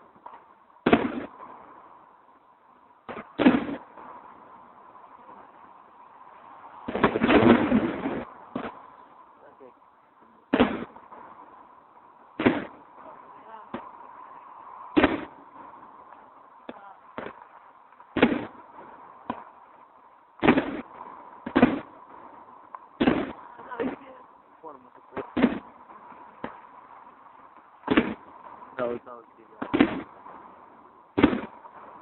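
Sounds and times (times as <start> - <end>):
firework bang echo: 0.0 - 2.2, 3.0 - 5.8, 6.8 - 19.8, 20.4 - 32.0
faint background noise: 0.0 - 32.0.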